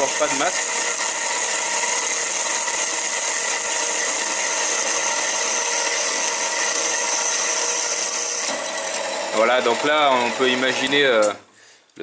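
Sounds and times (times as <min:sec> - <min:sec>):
electric saw cutting steel: 0:00.0 - 0:11.4.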